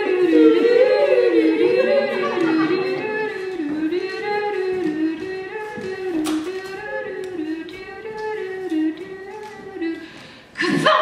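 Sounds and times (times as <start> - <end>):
music of held notes: 0.0 - 10.1.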